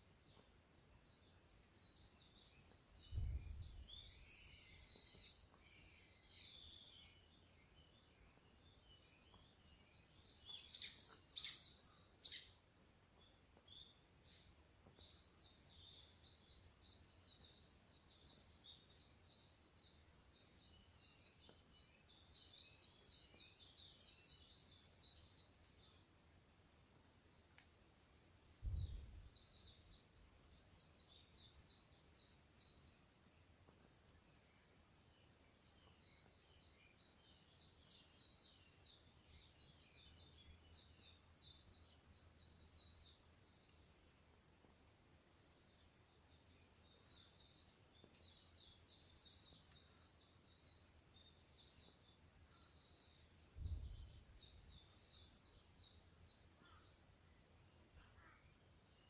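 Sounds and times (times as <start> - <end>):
birds singing: 0.0 - 26.1, 27.6 - 44.0, 44.9 - 59.0.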